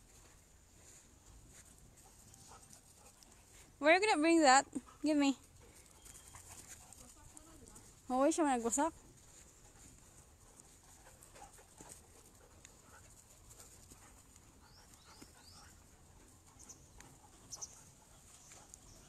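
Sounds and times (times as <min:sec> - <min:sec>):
dogs scuffling on grass: 0:00.0 - 0:04.4, 0:05.7 - 0:19.0.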